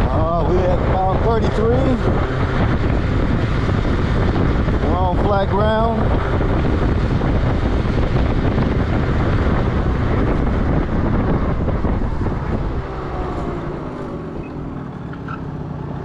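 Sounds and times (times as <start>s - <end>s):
wind buffeting the microphone: 0.0s - 15.2s
scooter engine running: 0.0s - 16.0s.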